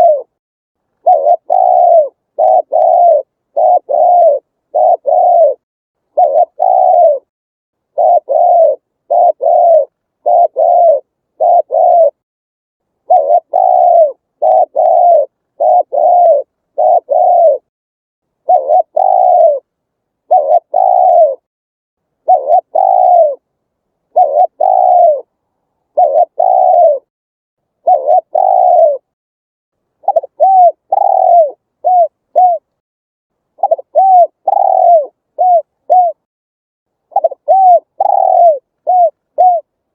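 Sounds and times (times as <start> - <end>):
dove cooing: 0.0 - 0.4, 1.0 - 7.3, 7.9 - 12.2, 13.0 - 17.7, 18.4 - 21.5, 22.2 - 23.4, 24.1 - 27.1, 27.8 - 29.2, 30.0 - 32.7, 33.6 - 36.3, 37.1 - 39.8.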